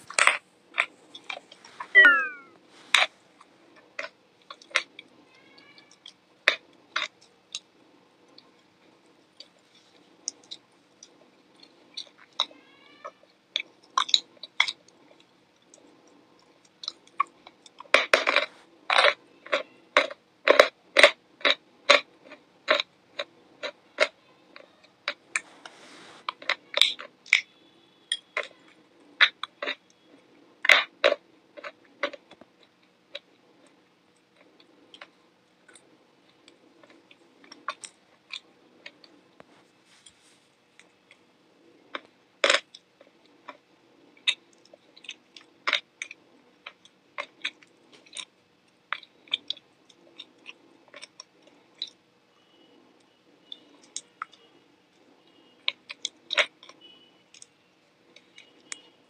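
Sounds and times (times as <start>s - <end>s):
crunching and chewing crisp food: 0.0s - 59.0s.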